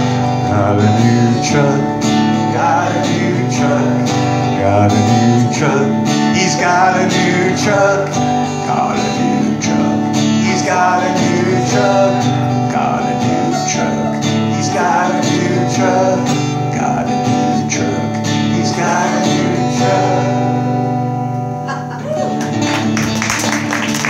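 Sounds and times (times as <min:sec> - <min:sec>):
acoustic guitar strumming: 0:00.0 - 0:23.8.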